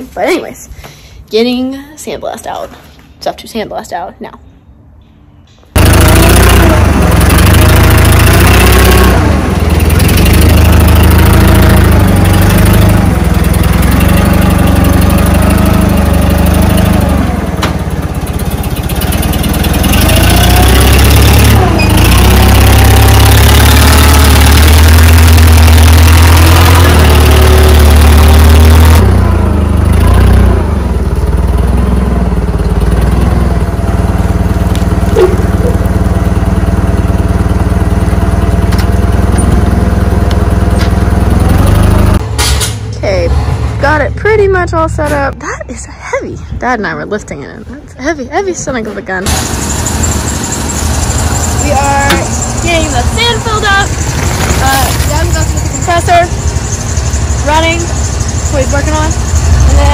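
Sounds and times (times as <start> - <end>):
forklift engine running: 5.7 - 59.9.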